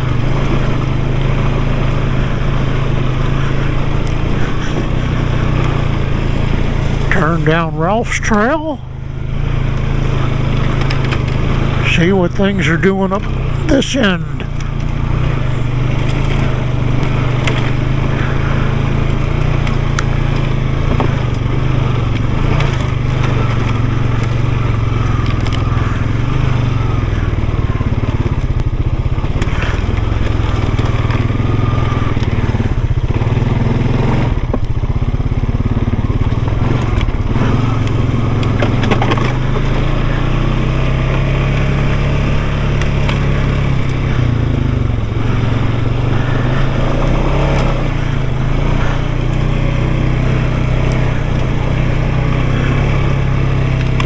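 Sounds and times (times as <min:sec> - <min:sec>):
atv engine running: 0:00.0 - 0:54.0
tyres crunching over gravel: 0:00.0 - 0:54.0.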